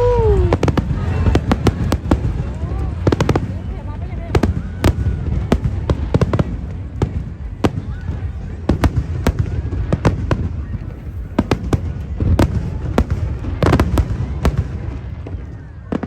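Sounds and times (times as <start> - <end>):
low rumble: 0.0 - 13.6
fireworks banging: 0.0 - 16.0.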